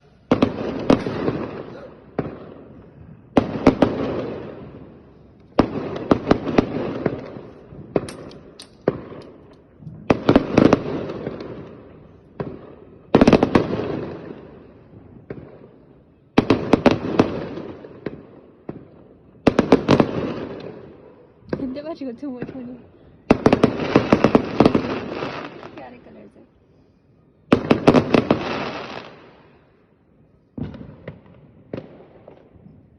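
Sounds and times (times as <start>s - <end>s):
fireworks bangs: 0.0s - 26.4s, 27.4s - 32.9s.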